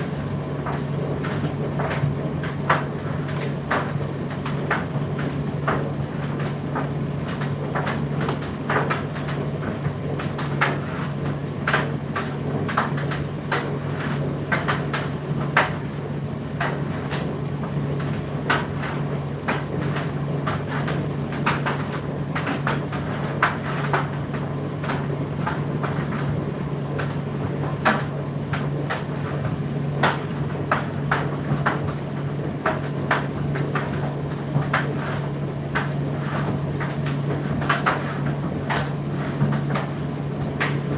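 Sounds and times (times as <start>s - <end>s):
tumble dryer motor hum: 0.0s - 40.9s.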